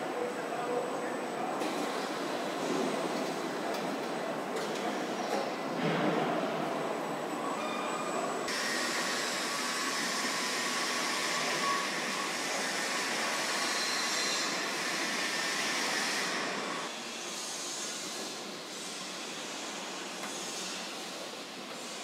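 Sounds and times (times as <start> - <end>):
factory machinery hiss and hum: 0.0 - 22.0.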